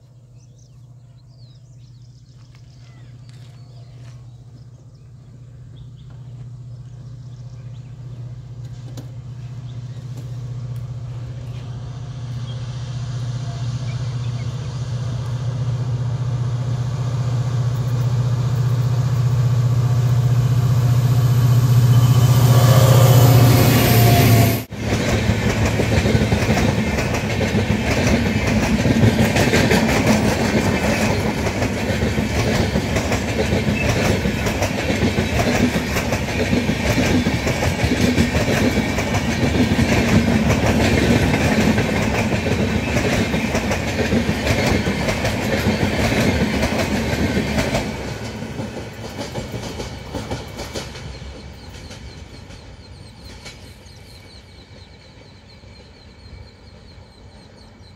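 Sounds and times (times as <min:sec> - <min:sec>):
train wheels clattering on track: 0:08.4 - 0:57.9.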